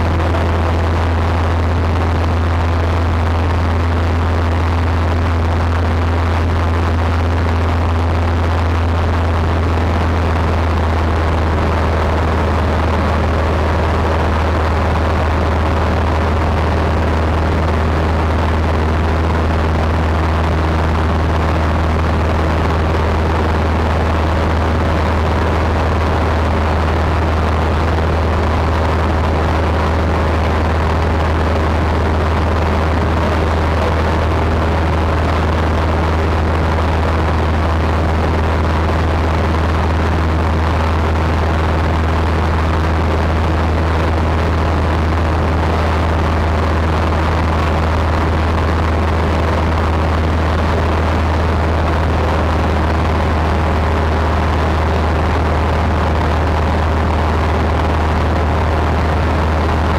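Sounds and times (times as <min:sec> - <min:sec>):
airplane engine drone: 0:00.0 - 0:59.9.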